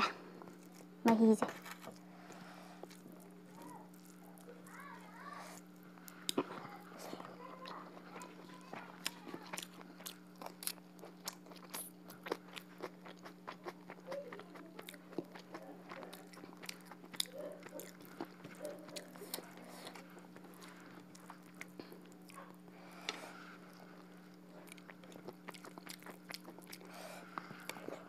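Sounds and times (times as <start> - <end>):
chewing: 0.0 - 0.9, 1.6 - 28.0.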